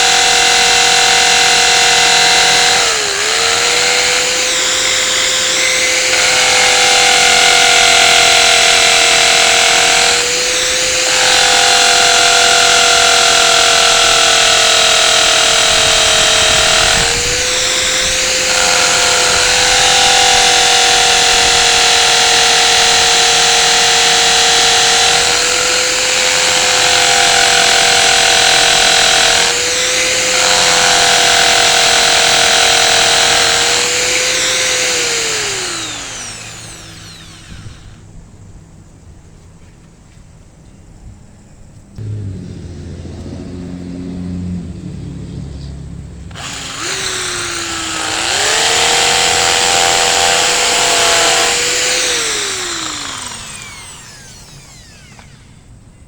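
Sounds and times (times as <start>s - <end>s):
electric drill running: 0.0s - 38.1s, 46.3s - 55.8s.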